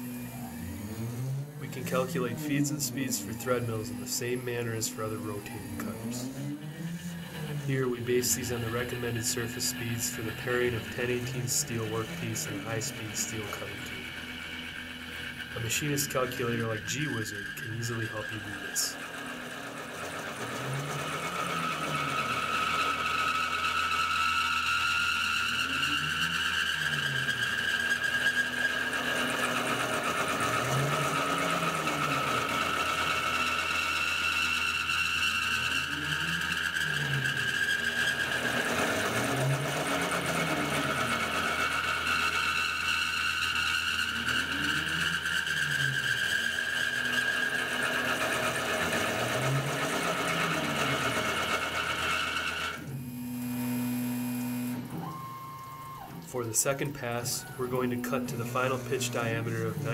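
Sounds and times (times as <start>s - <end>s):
milling machine cutting squeal: 1.7s - 59.9s.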